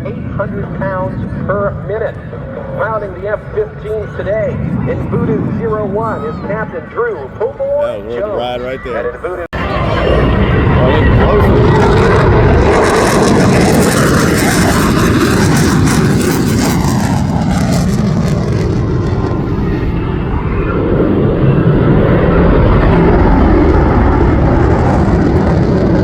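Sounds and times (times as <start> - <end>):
fighter jets roaring past: 0.0 - 26.0.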